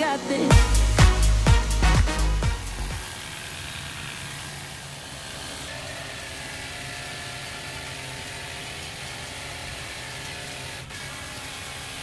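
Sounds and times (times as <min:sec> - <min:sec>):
pressure washer motor hum: 0:00.0 - 0:12.0.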